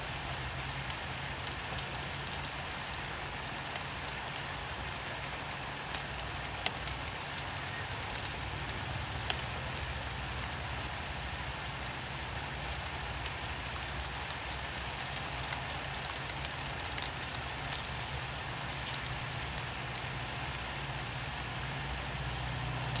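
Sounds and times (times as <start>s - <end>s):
steady rain hiss: 0.0s - 23.0s
raindrop taps: 0.3s - 10.5s, 11.7s - 20.7s.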